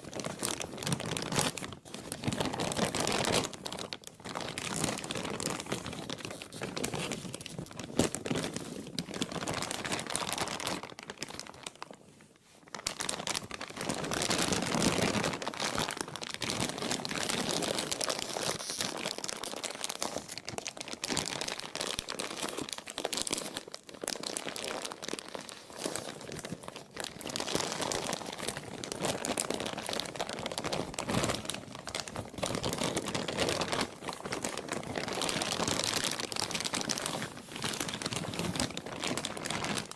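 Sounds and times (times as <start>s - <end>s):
plastic crinkling: 0.0s - 39.9s.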